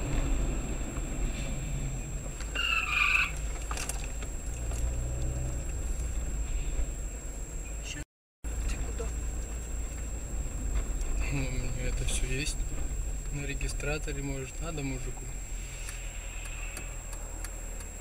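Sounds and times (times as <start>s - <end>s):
faint high whine: 0.0s - 17.9s
car engine and road rumble: 0.0s - 18.0s.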